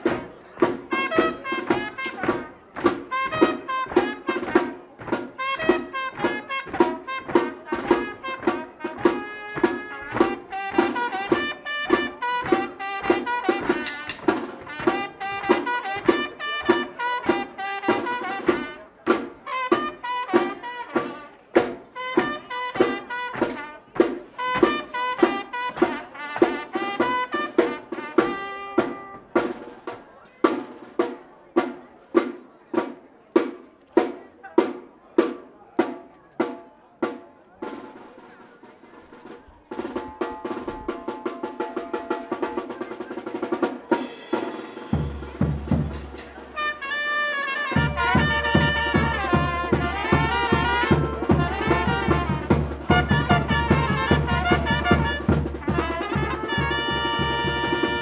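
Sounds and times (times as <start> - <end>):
brass band playing: 0.0 - 29.7, 39.2 - 58.0
bass drum and snare beat: 0.0 - 37.9, 39.7 - 58.0.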